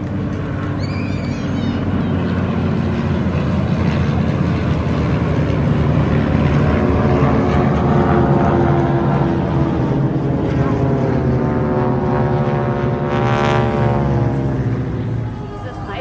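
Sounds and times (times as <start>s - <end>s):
large vehicle engine rumbling: 0.0s - 16.0s.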